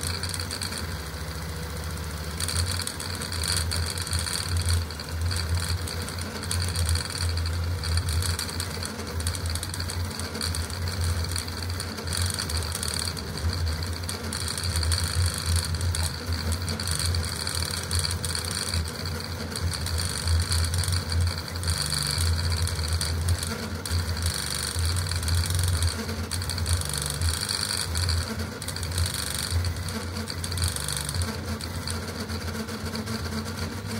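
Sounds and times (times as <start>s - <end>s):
three d printer buzzing and whining: 0.0s - 1.0s, 1.9s - 33.9s.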